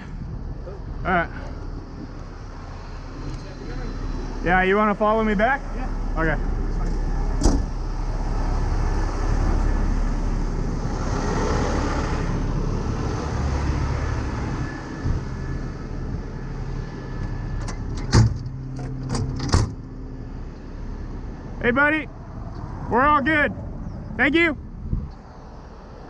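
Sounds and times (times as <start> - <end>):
heavy truck engine idling: 0.0 - 21.6
road traffic passing: 0.0 - 26.0.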